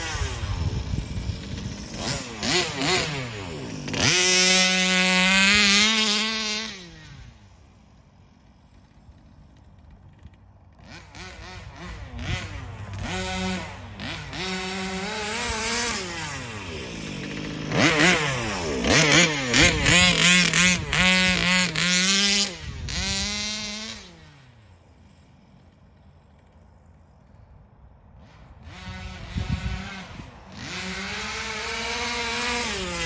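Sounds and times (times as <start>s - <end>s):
rc car two-stroke engine revving: 0.0s - 27.2s, 28.2s - 33.0s.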